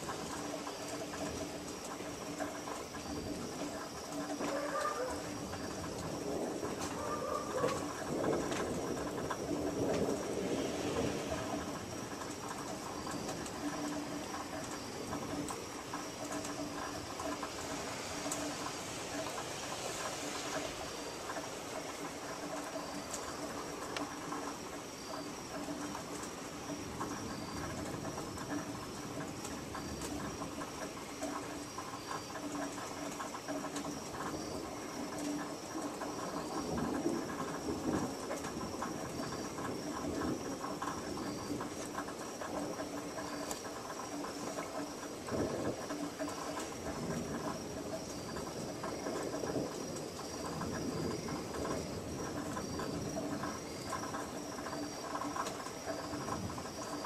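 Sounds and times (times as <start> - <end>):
faint insect chirp: 0.0 - 57.0
light rain pattering and dripping: 0.0 - 57.0.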